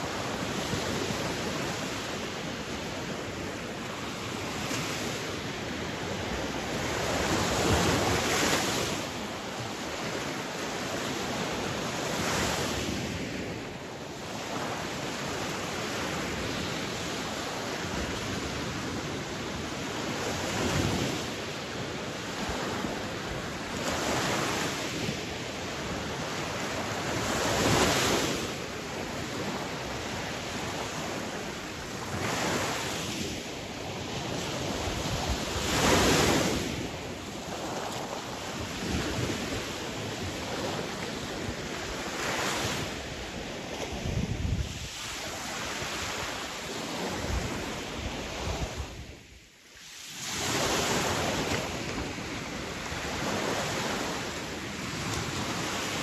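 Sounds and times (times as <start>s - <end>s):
wind noise on microphone: 0.0s - 49.5s, 50.1s - 56.0s
sea waves breaking on shore: 0.0s - 56.0s.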